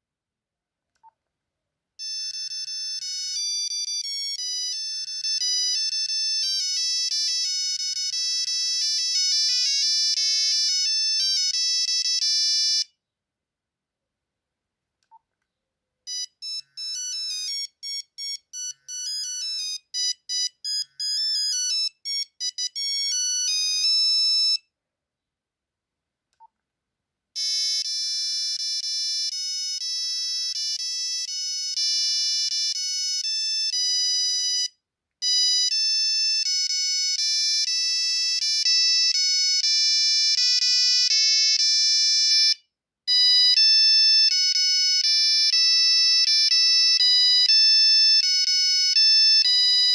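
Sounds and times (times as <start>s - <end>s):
mobile phone ringtone melody: 2.0s - 12.9s, 16.1s - 24.6s, 27.4s - 49.9s.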